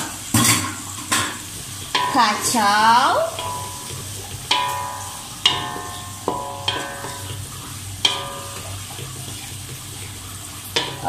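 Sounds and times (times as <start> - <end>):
frying sizzle in a wok: 0.0 - 11.0
spatula clinking on pan: 0.4 - 9.8, 10.8 - 11.0.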